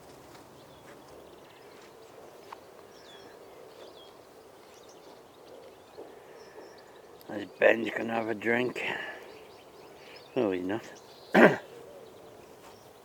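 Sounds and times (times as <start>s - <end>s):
low outdoor background: 0.0s - 13.0s
small birds chirping: 0.0s - 13.0s.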